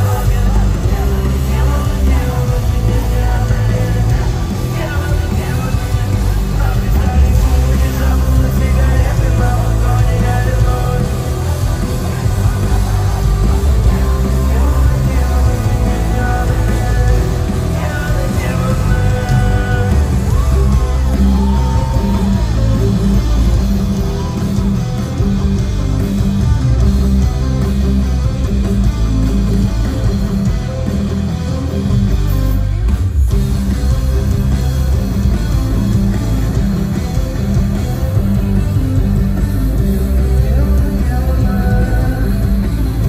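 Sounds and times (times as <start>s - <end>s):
bass guitar: 0.0s - 43.0s
drums keeping a steady beat: 0.0s - 43.0s
electric guitars: 0.0s - 43.0s.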